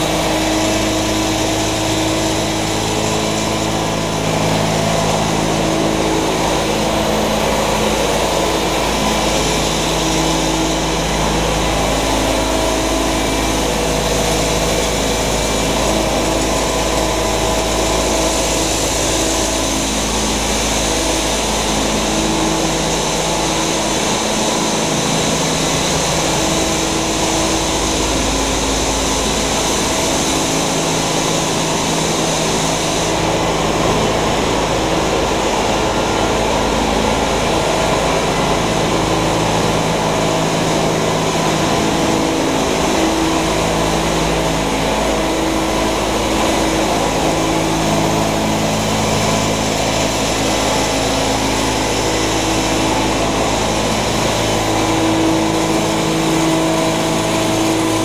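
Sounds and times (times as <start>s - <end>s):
electric motors and fans droning: 0.0s - 58.0s
rush of air and material: 0.0s - 58.0s.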